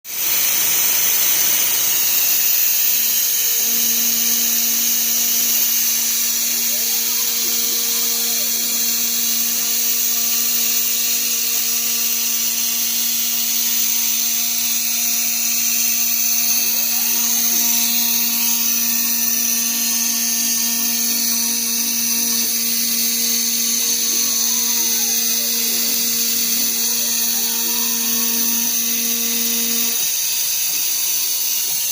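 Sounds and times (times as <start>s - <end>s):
gliding whines: 0.1s - 31.9s
motor hum tones: 0.1s - 31.9s
router spindle high-pitched hiss: 0.1s - 31.9s.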